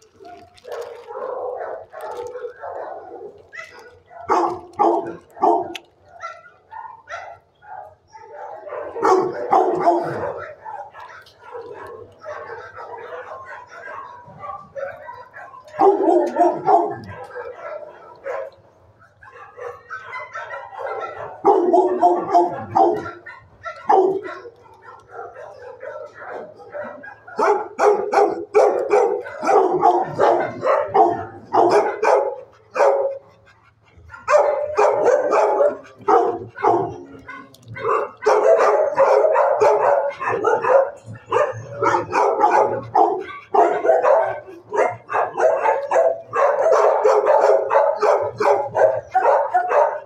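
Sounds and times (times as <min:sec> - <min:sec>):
many dogs barking: 0:00.0 - 0:50.0.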